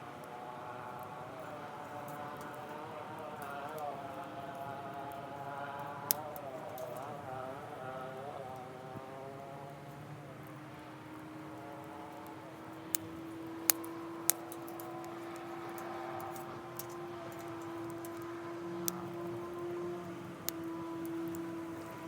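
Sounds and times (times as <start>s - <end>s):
wood fire crackling: 1.1s - 7.7s, 11.0s - 22.0s.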